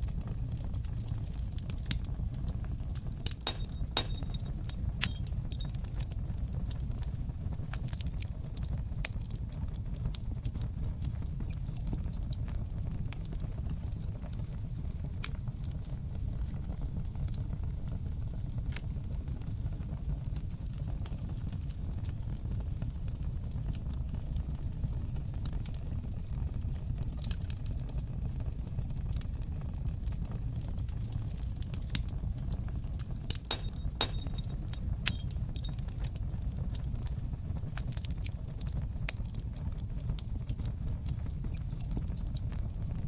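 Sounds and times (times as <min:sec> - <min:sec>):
low fire rumble: 0:00.0 - 0:43.0
wood fire crackling: 0:00.0 - 0:43.0.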